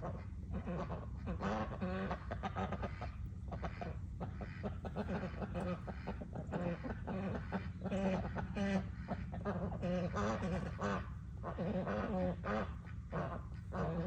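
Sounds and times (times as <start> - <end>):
fowl calling: 0.0 - 14.0
steady low hum: 0.0 - 14.0.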